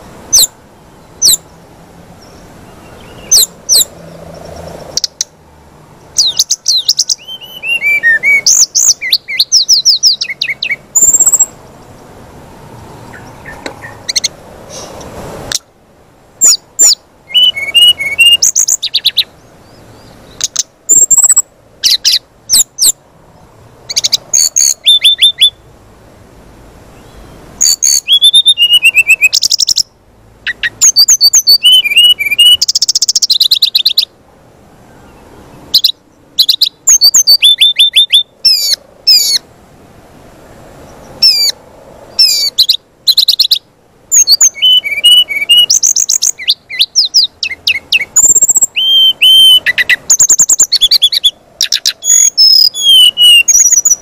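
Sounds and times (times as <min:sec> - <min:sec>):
bird singing chirps and trills: 0:00.0 - 0:15.7, 0:16.4 - 0:25.7, 0:26.9 - 0:34.2, 0:34.8 - 0:39.4, 0:40.8 - 0:54.0.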